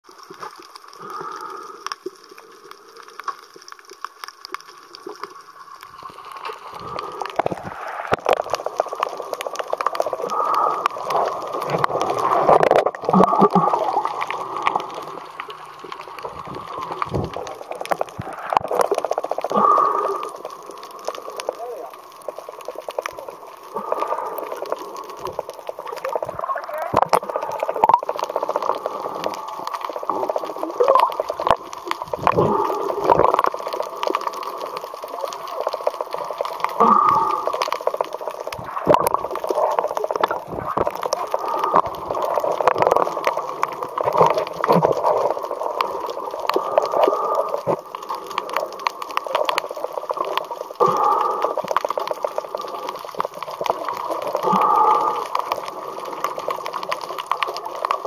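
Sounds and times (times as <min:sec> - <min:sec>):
small clicks underwater: 0:00.0 - 0:58.0.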